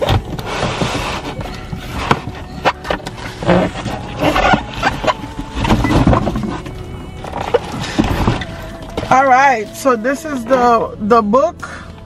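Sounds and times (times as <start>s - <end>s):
cardboard box rustling and scraping: 0.0s - 10.6s.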